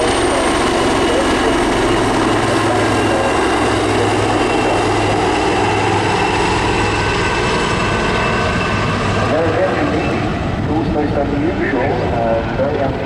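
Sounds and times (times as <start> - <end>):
aircraft engines roaring: 0.0 - 13.0
high engine whine: 0.0 - 13.0.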